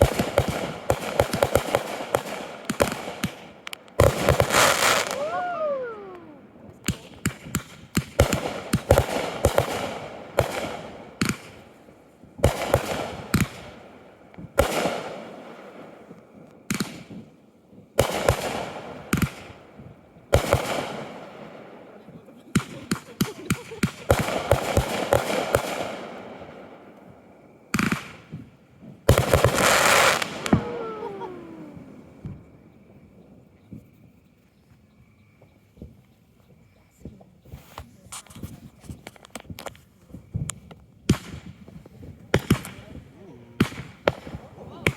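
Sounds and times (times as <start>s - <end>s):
fireworks bangs with crackling: 0.0s - 33.1s, 37.0s - 44.9s.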